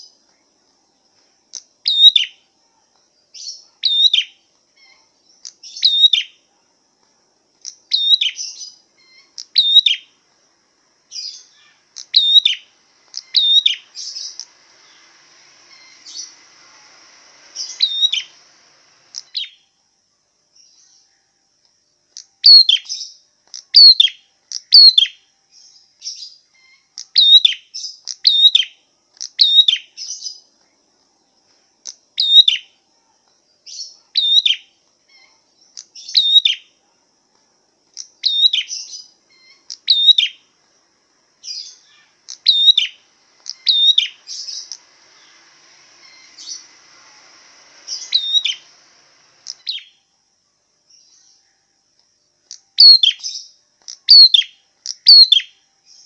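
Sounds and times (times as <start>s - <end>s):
songbird chirped call notes: 0.0s - 56.0s.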